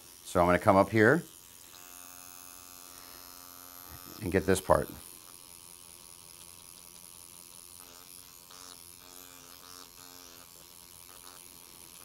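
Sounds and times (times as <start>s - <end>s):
microneedling pen buzzing: 0.0s - 12.0s.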